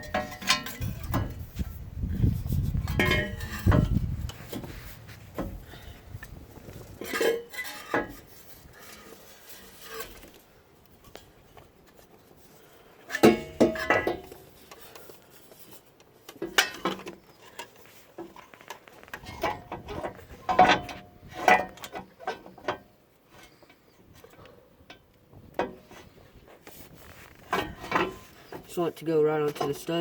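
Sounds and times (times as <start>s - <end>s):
metallic clanks and scrapes: 0.0s - 10.4s, 12.4s - 28.8s.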